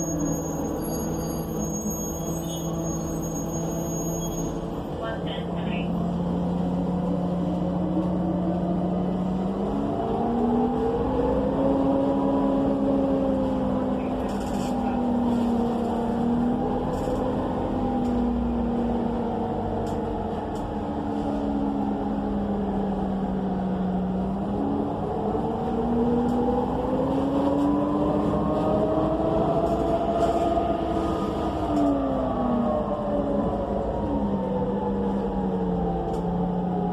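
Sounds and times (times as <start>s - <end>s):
bus engine from inside: 0.0s - 36.9s.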